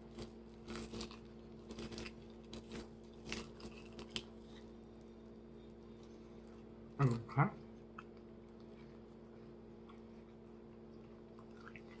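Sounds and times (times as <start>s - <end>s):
person chewing crunchy food: 0.0s - 7.2s, 7.8s - 12.0s
steady low hum: 0.0s - 12.0s.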